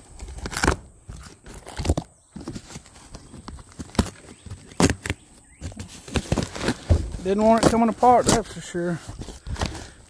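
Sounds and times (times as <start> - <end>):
cardboard ripping and rustling: 0.0 - 10.0.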